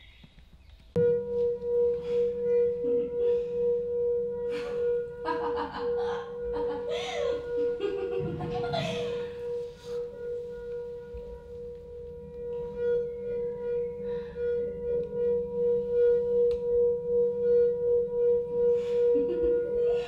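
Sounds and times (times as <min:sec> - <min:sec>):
sustained wavering ringing tone: 0:00.9 - 0:20.0.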